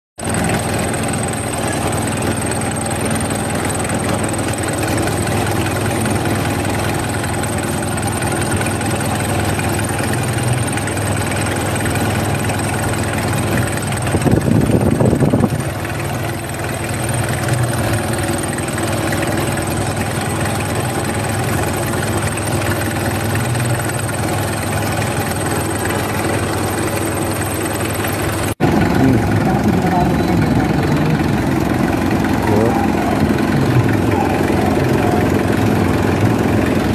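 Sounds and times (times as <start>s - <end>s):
engine idling roughly: 0.2s - 36.9s.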